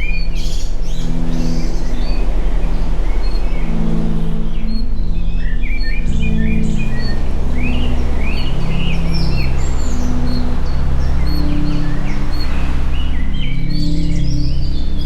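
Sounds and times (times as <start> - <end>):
birds chirping: 0.0 - 15.0
low steady drone tones: 0.0 - 15.0.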